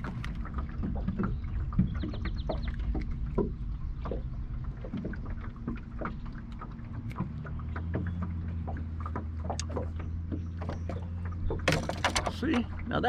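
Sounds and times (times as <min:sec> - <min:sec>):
gear knocking and clicking: 0:00.0 - 0:12.8
wind and water rumble: 0:00.0 - 0:13.0.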